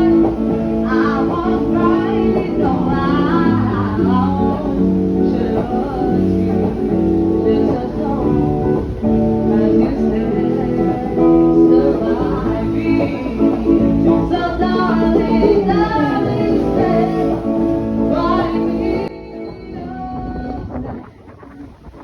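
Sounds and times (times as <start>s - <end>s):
person singing: 0.0s - 21.1s
plucked guitar: 0.0s - 22.0s.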